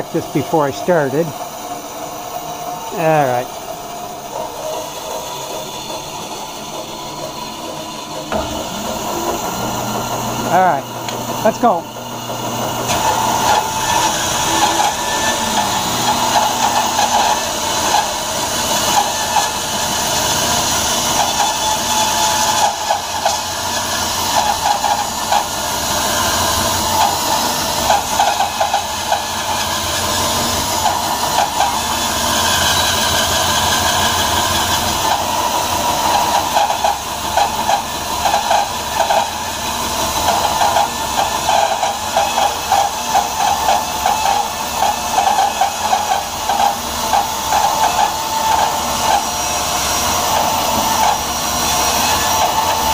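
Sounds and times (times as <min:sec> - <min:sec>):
bandsaw cutting wood: 0:00.0 - 0:52.9.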